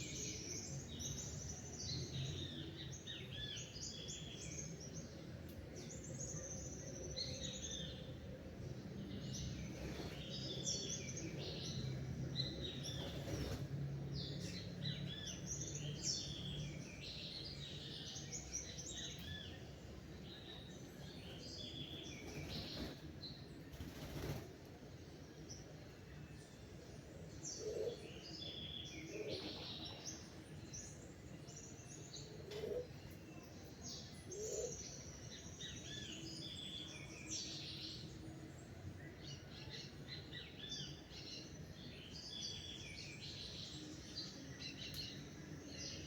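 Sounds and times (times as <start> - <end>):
outdoor background noise: 0.0 - 46.0
songbirds chirping and singing: 0.0 - 46.0.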